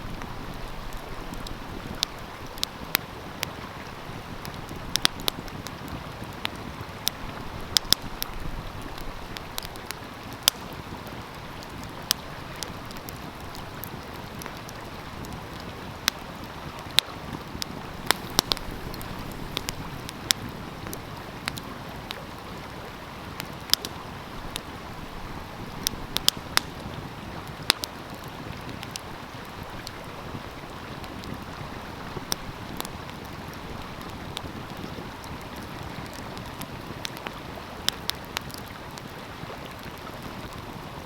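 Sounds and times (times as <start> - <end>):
stream flowing: 0.0 - 37.8
wood fire crackling: 0.0 - 40.7.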